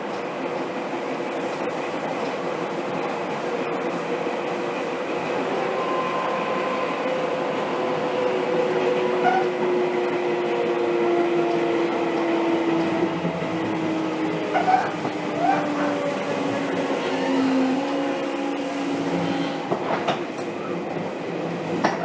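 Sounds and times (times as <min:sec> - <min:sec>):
train inverter drone: 0:00.0 - 0:22.0
wheel and rail rumble: 0:00.0 - 0:22.0.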